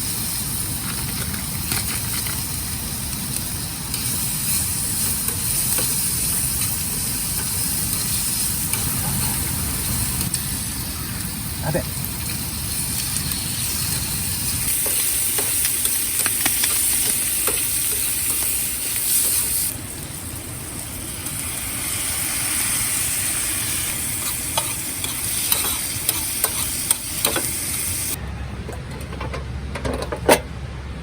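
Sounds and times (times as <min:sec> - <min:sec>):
food sizzling in a frying pan: 0:00.0 - 0:28.2.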